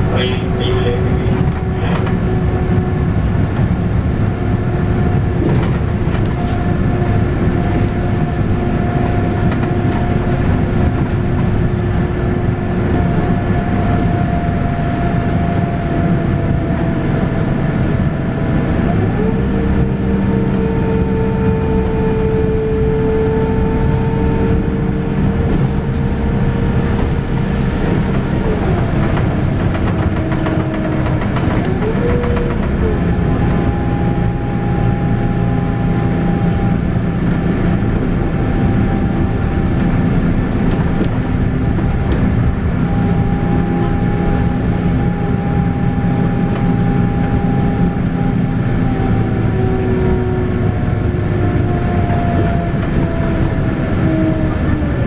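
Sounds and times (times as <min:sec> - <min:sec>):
bus engine low rumble: 0:00.0 - 0:55.0
gearbox whine: 0:00.0 - 0:55.0.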